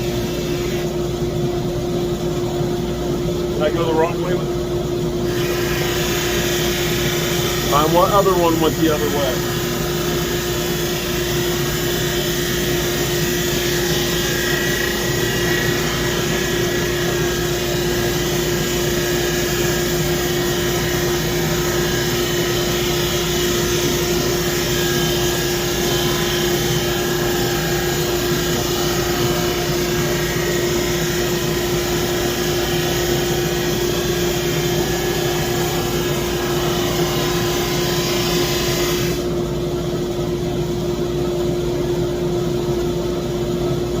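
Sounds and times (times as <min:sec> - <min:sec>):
drum sander motor hum: 0:00.0 - 0:44.0.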